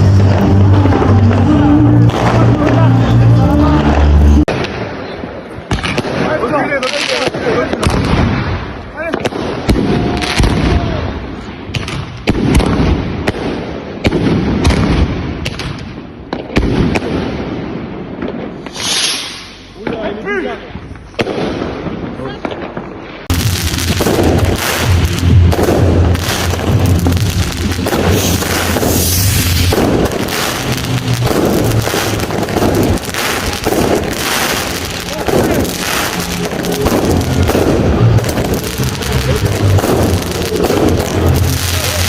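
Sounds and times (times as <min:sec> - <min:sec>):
low rumble of explosions: 0:00.0 - 0:18.7, 0:19.6 - 0:42.0
firecrackers cracking and banging: 0:00.0 - 0:42.0.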